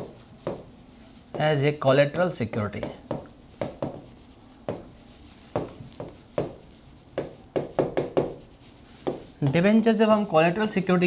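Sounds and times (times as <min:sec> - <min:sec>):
marker pen writing on whiteboard: 0:00.0 - 0:09.8.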